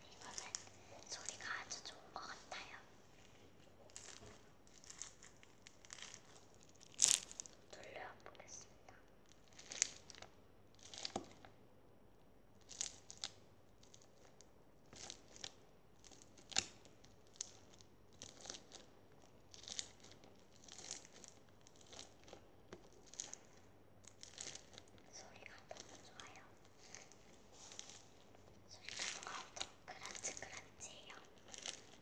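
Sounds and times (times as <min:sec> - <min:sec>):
slime squishing and crackling: 0:00.0 - 0:02.0, 0:03.7 - 0:07.7, 0:09.2 - 0:11.6, 0:12.5 - 0:32.0.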